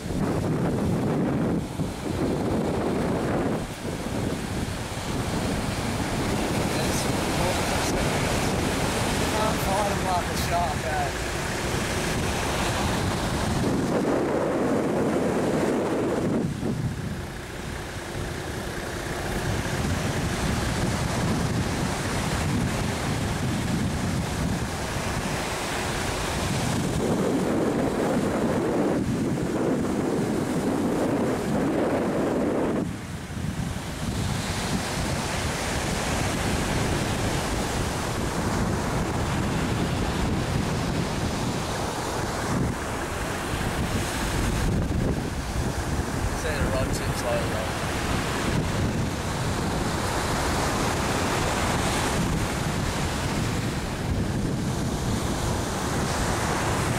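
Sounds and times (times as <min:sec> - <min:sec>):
surf breaking on beach: 0:00.0 - 0:56.9
wind buffeting microphone: 0:00.0 - 0:56.9.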